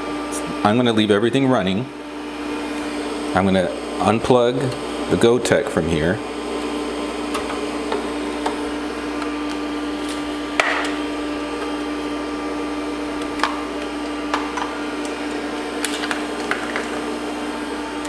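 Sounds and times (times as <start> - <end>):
computer fan and hard drive hum: 0.0 - 18.0.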